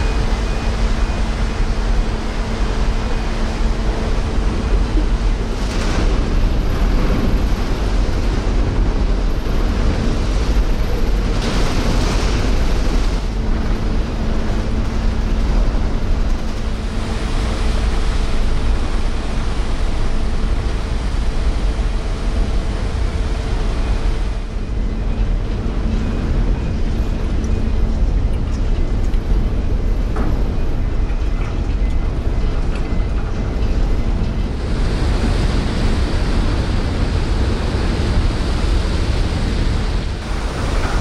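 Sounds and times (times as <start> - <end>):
propellers churning water: 0.0 - 41.0.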